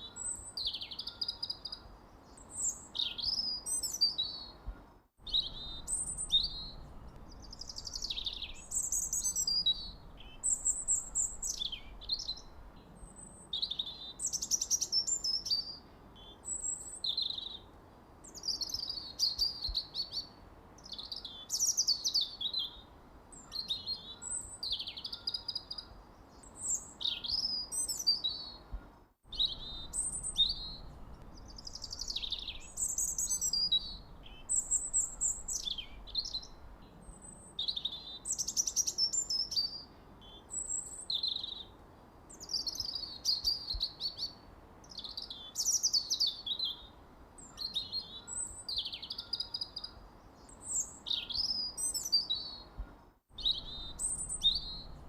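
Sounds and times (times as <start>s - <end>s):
songbirds chirping and singing: 0.0s - 17.7s, 18.3s - 55.0s.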